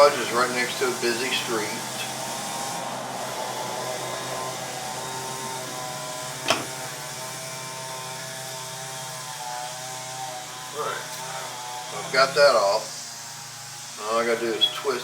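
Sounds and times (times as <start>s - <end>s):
distant small engine running: 0.0s - 15.0s.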